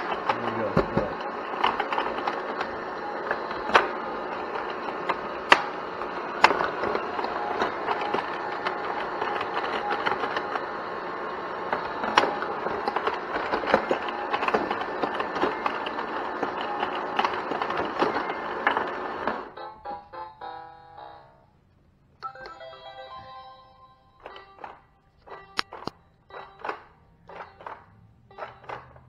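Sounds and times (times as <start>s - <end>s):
flipper and bumper plastic clacks: 0.0s - 19.5s, 24.2s - 29.0s
pinball rolling and rattling: 0.0s - 19.6s, 24.2s - 29.0s.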